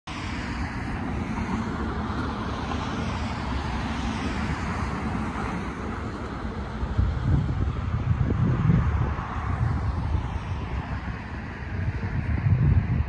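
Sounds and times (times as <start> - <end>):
distant engines rumbling: 0.1 - 13.0.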